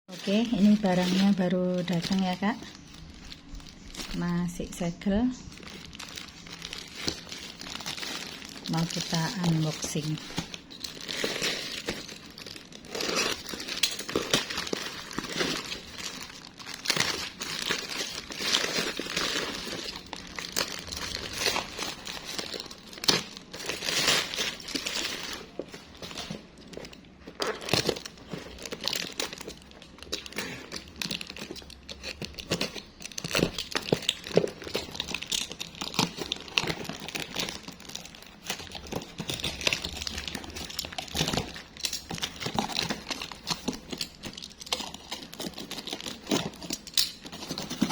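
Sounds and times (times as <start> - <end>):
plastic wrap crinkling: 0.1 - 47.9.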